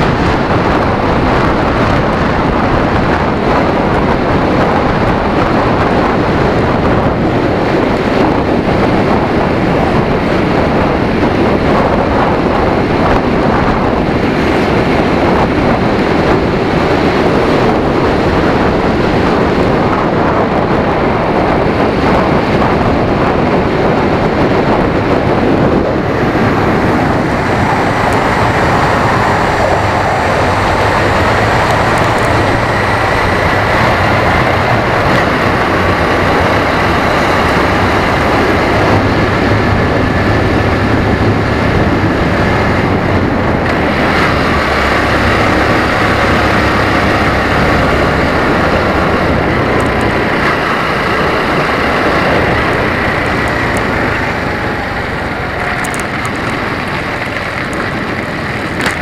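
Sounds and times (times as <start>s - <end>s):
road and wind noise: 0.0s - 59.0s
vehicle engine drone: 0.0s - 59.0s.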